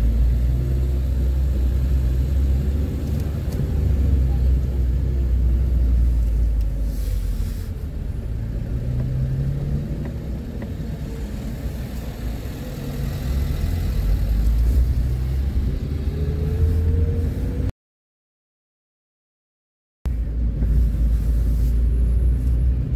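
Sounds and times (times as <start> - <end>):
car engine and road rumble: 0.0 - 17.7, 20.1 - 22.9.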